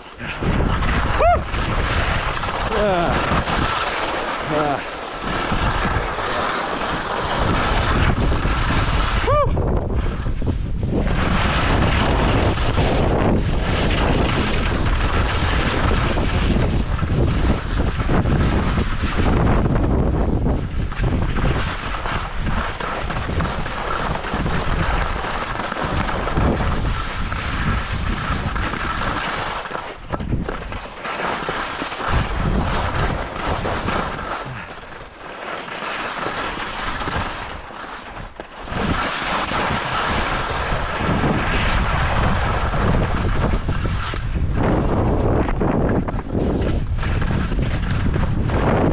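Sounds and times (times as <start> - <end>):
wind buffeting microphone: 0.0 - 30.8, 32.0 - 34.8, 38.2 - 48.9
skis scraping on icy snow: 0.0 - 48.9.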